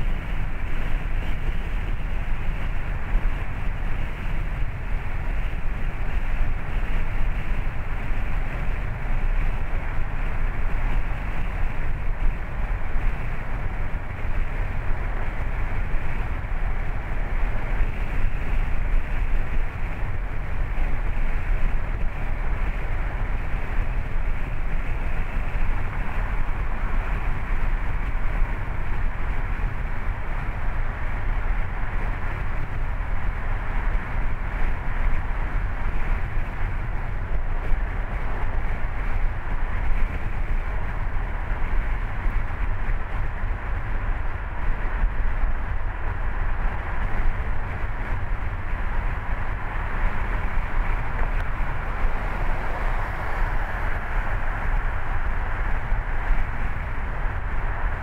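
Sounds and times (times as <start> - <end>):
wind on moving car: 0.0 - 58.0.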